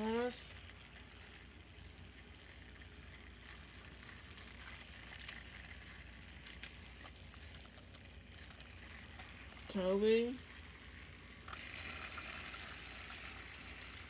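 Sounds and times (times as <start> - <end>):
plastic toy train clicks: 0.0 - 9.8, 10.4 - 14.0
low steady hum: 0.0 - 14.0.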